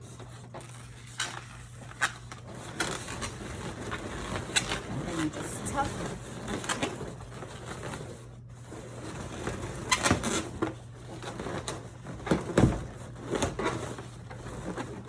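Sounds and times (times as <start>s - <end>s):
balloons rubbing and squeaking: 0.0s - 15.0s.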